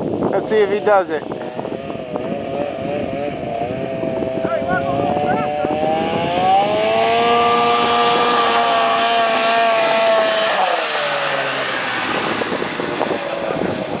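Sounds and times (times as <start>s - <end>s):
snowmobile engine at high revs: 0.3s - 14.0s.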